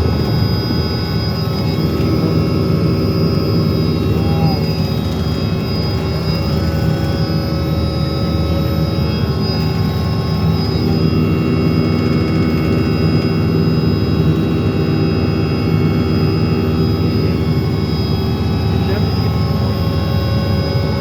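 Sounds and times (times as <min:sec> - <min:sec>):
helicopter engine and rotor drone: 0:00.0 - 0:21.0
high whine: 0:00.0 - 0:21.0.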